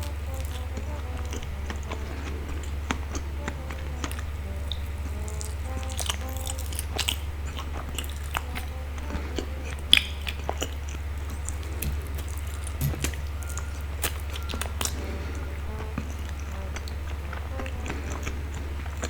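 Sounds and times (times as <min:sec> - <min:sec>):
steady low hum: 0:00.0 - 0:19.0
wet chewing smacks and clicks: 0:00.0 - 0:19.0.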